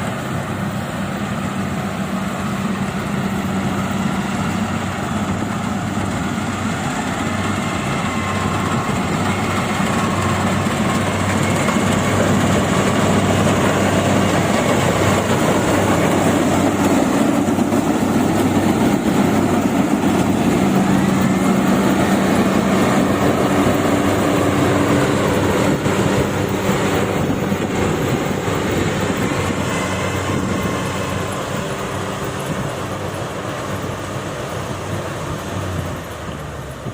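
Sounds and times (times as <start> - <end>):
combine harvester running: 0.0 - 36.9.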